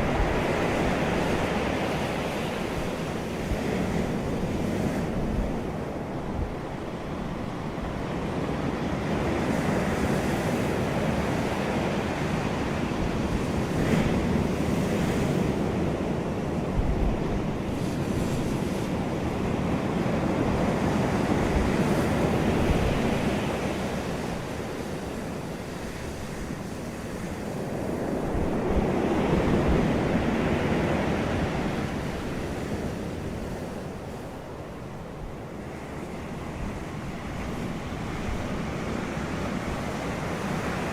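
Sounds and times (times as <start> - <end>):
sea waves breaking on shore: 0.0 - 40.9
wind rumbling on microphone: 0.0 - 40.9.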